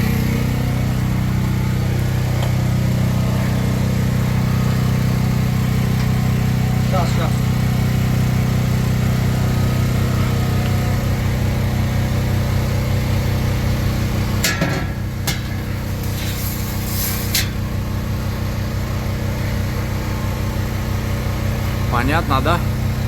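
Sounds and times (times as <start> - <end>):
generator engine humming: 0.0 - 23.0.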